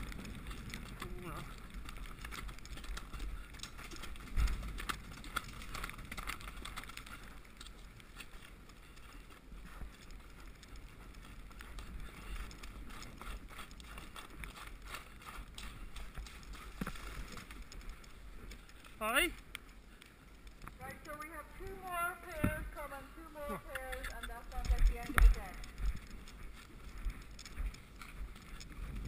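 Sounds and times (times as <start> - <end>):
horse hoofbeats on turf: 0.0 - 19.3, 20.8 - 29.0.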